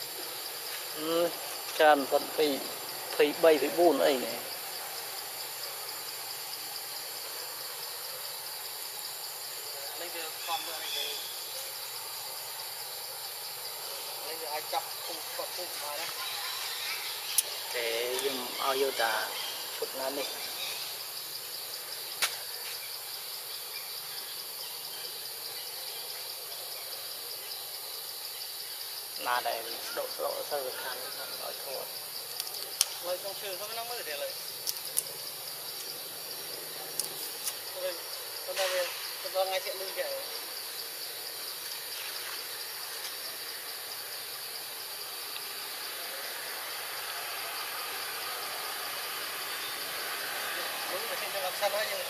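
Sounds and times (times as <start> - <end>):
insects chirring: 0.0 - 52.0.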